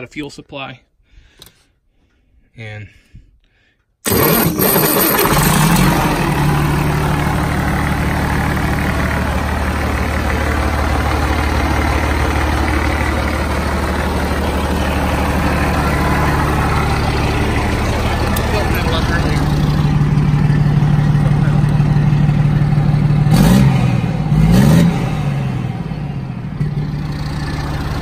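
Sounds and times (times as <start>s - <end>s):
diesel engine starting and idling: 4.0s - 28.0s.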